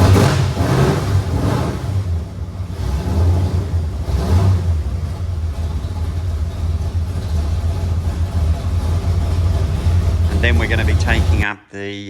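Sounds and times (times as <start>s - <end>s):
car engine idling with revs: 0.0s - 11.4s.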